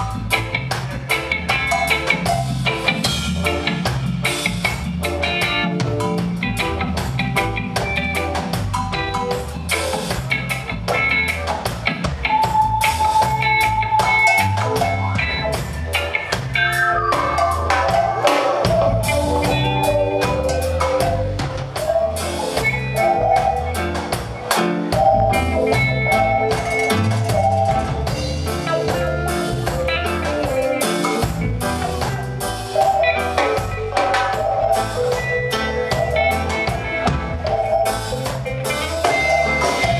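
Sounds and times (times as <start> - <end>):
bass guitar: 0.0 - 39.9
drum kit: 0.0 - 39.9
electric guitar melody: 0.0 - 39.9.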